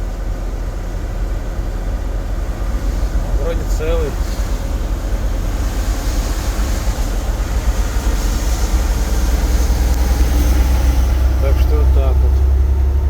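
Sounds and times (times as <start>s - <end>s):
low rumble inside vehicle: 0.0s - 13.0s.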